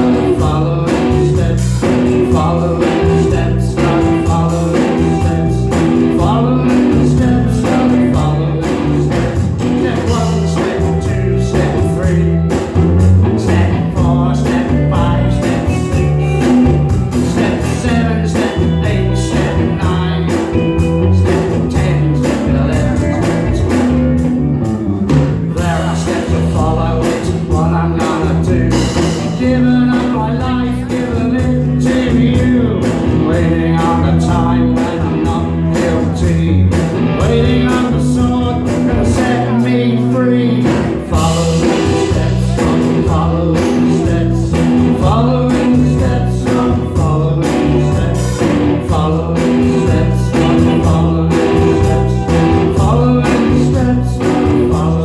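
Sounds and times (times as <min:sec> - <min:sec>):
bass guitar: 0:00.0 - 0:55.0
drum kit beat: 0:00.0 - 0:55.0
electric guitars: 0:00.0 - 0:55.0.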